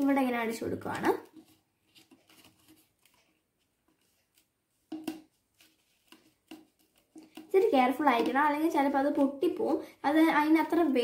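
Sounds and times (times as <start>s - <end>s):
sponge dabbing soft taps: 0.8s - 9.6s.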